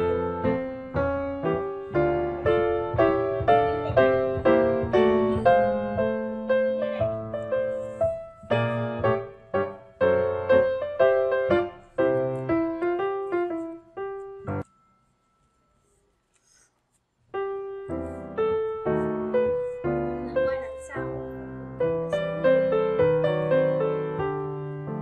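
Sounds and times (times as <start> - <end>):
light piano melody: 0.0 - 16.6, 17.2 - 25.0.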